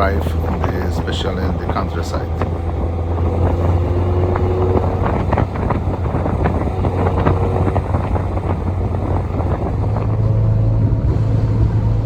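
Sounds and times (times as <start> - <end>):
car engine cruising: 0.0 - 12.0
road and wind noise: 0.0 - 12.0.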